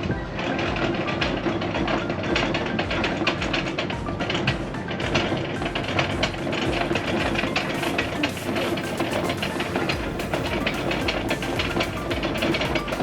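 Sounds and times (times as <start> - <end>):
windlass hum: 0.0 - 13.0.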